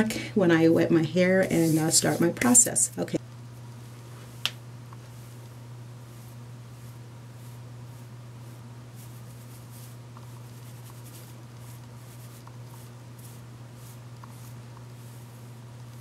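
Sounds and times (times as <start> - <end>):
steady low hum: 0.0 - 16.0
fingers rustling curly hair: 1.4 - 2.8, 4.0 - 16.0.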